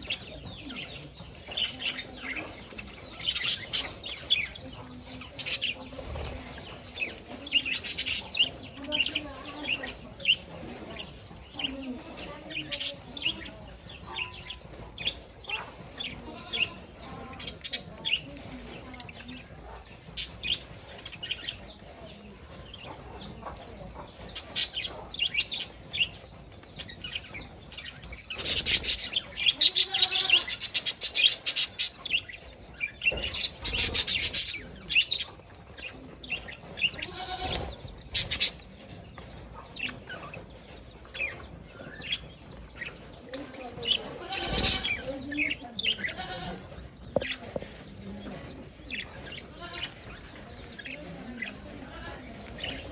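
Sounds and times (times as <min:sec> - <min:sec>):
budgerigars chirping and chattering: 0:00.0 - 0:52.9
rapid warbling chatter: 0:00.0 - 0:52.9.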